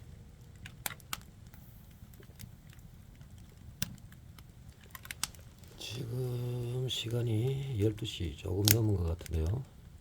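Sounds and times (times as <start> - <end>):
firewood burning and crackling: 0.0 - 10.0.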